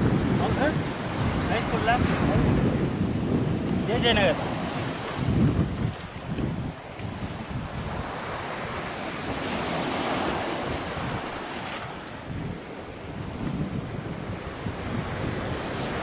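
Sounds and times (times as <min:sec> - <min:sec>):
sea surf washing on shore: 0:00.0 - 0:16.0
wind buffeting microphone: 0:00.0 - 0:16.0.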